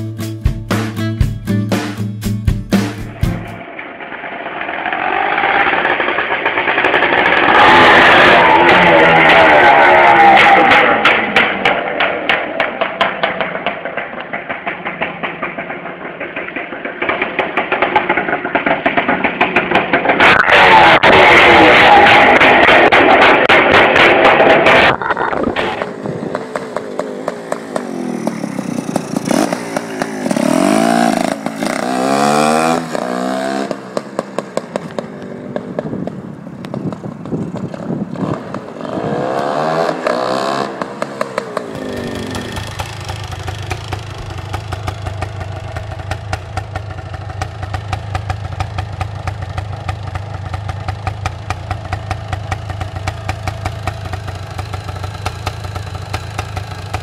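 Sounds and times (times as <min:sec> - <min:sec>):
two-stroke engine revving and idling: 0:03.0 - 0:57.0.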